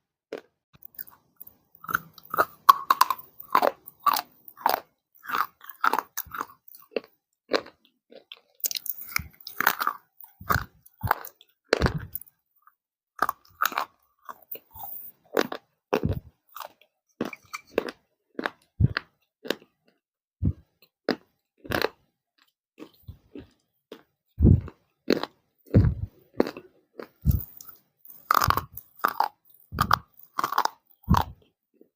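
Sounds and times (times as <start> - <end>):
baked clay crunching when chewed: 0.3 - 31.9.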